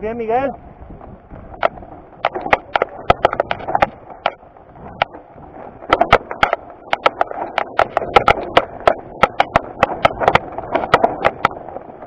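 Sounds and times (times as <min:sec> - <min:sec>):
wind and tyre noise: 0:00.0 - 0:12.0
bike rattling over rocks: 0:00.8 - 0:12.0.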